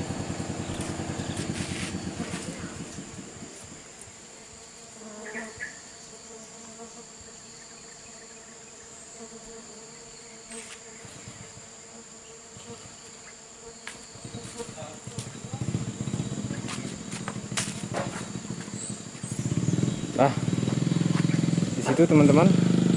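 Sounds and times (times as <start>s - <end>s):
high-pitched insect whine: 0.0s - 22.8s
bees buzzing: 0.0s - 22.9s.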